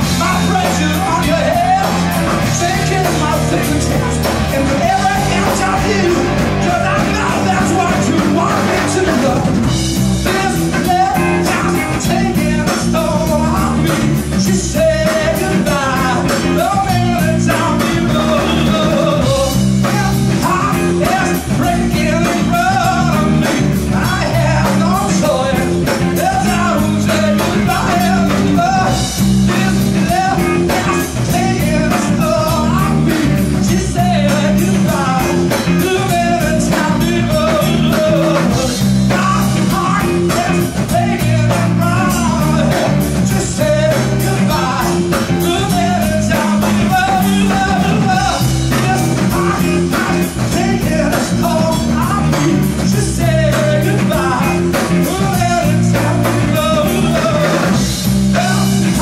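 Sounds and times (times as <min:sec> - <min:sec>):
bass guitar: 0:00.0 - 0:59.0
drum kit beat: 0:00.0 - 0:59.0
electric lead guitar: 0:00.0 - 0:59.0.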